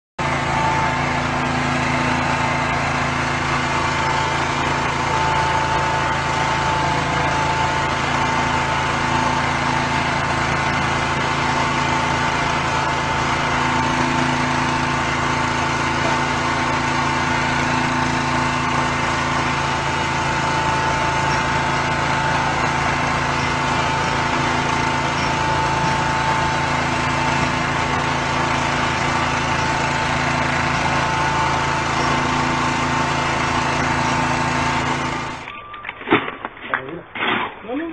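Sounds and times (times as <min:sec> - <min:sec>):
small engine running steadily: 0:00.2 - 0:35.6.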